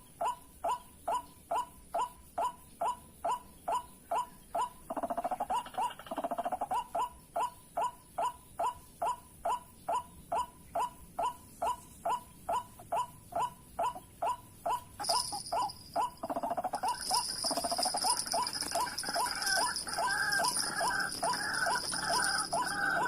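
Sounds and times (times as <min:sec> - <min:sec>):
waterhen croaking calls: 0:00.2 - 0:23.0.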